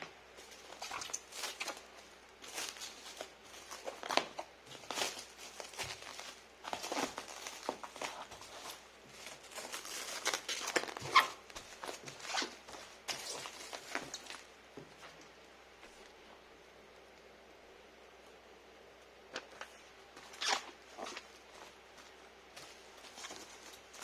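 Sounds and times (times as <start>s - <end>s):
packaging crinkling and rustling: 0.4s - 15.3s, 19.3s - 24.0s.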